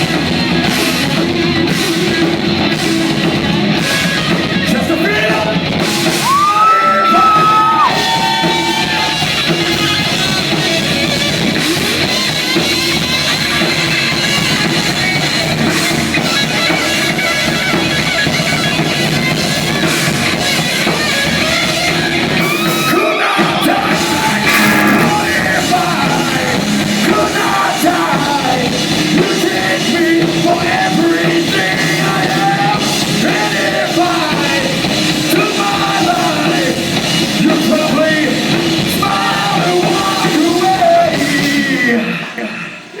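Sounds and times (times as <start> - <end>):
rock music with distorted guitar: 0.0 - 42.4.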